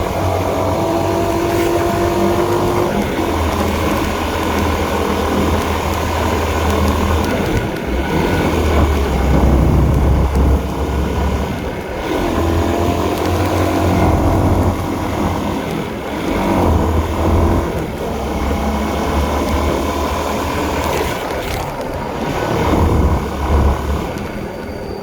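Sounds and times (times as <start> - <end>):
motorcycle engine running: 0.0 - 24.6
wind and road noise: 0.0 - 25.0.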